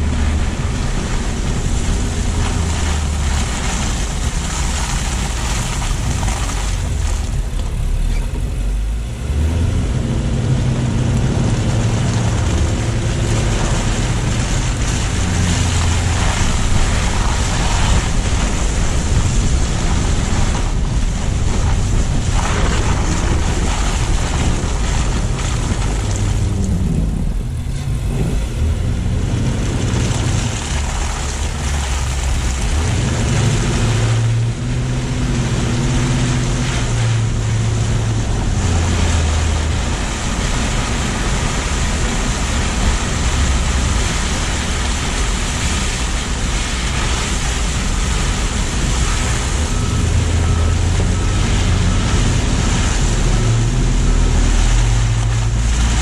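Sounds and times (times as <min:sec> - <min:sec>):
car engine hum: 0:00.0 - 0:56.0
tyres on slushy road: 0:00.0 - 0:56.0
wind on microphone: 0:00.0 - 0:56.0.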